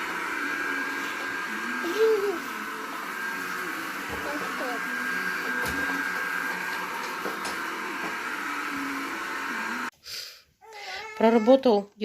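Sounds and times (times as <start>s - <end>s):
robot vacuum cleaner running: 0.0s - 9.9s.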